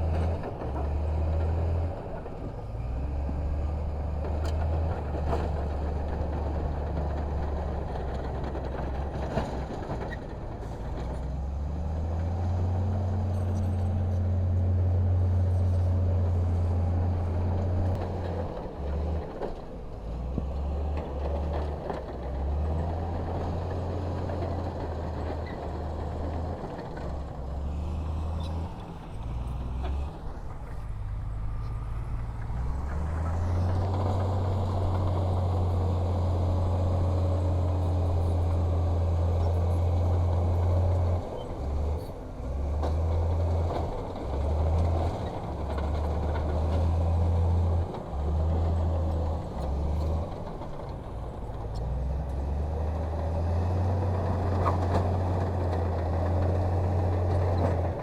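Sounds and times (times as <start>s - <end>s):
diesel machinery engine rumble: 0.0s - 58.0s.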